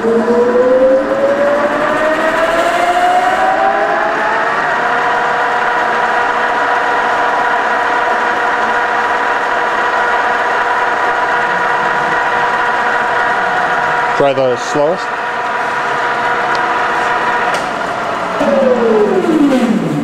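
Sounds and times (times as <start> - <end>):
lathe gearbox whine: 0.0 - 20.0.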